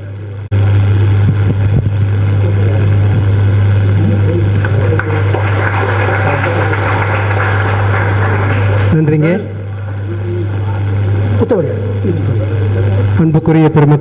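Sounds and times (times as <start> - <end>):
low electrical hum: 0.0 - 14.0
murmur of voices: 2.1 - 14.0.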